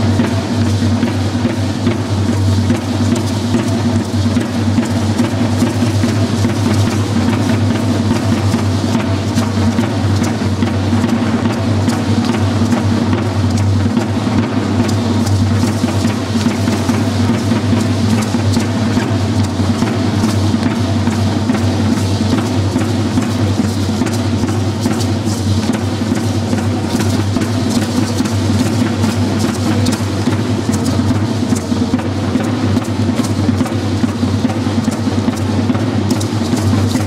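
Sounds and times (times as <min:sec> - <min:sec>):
hand rattles shaking: 0:00.0 - 0:37.0.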